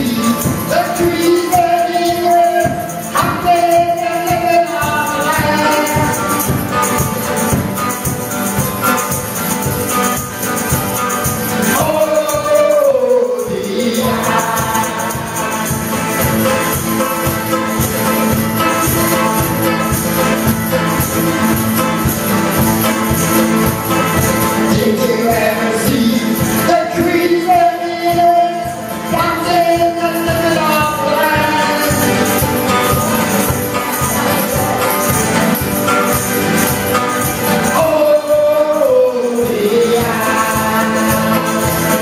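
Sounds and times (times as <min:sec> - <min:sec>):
acoustic guitars strummed: 0:00.0 - 0:42.0
mandolin strumming: 0:00.0 - 0:42.0
voices singing held notes: 0:00.0 - 0:42.0.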